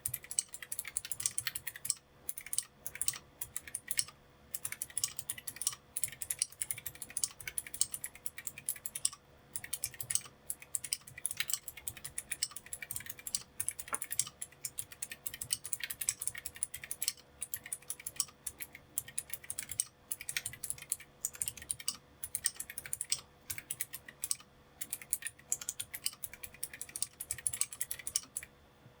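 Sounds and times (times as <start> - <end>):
mechanical keyboard typing: 0.0 - 28.5.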